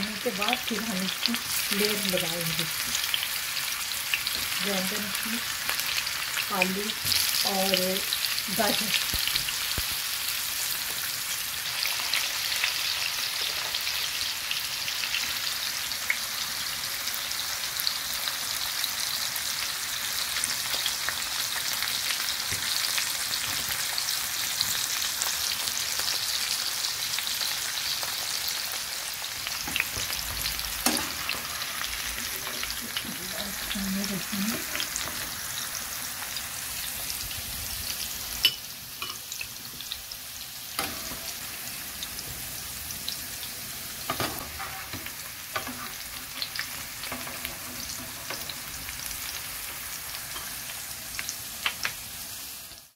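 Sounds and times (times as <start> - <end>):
vegetables sizzling in oil: 0.0 - 52.9.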